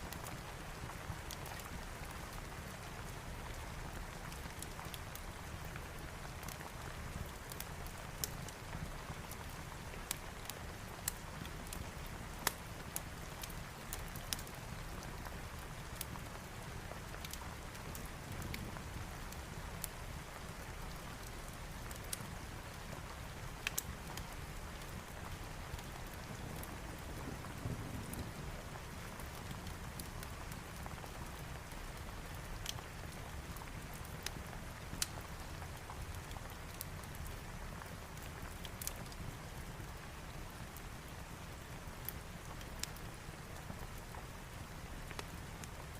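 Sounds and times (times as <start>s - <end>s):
steady rain: 0.0s - 45.9s
wood fire crackling: 0.0s - 45.9s.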